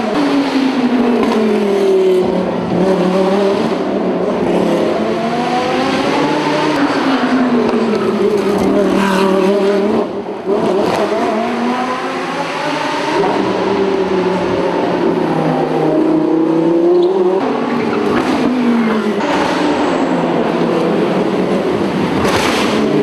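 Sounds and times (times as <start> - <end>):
race cars passing: 0.0 - 23.0.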